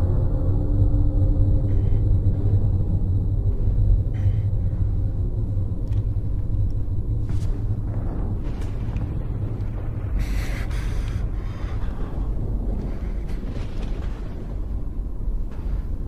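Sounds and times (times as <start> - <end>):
deep rumble: 0.0 - 16.0.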